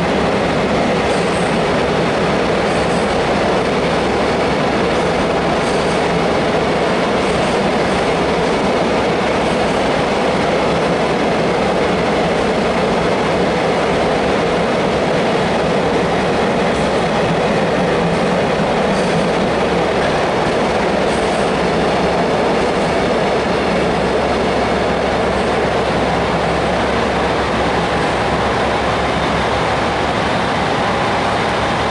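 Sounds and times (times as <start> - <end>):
freight train rumbling past: 0.0 - 31.9.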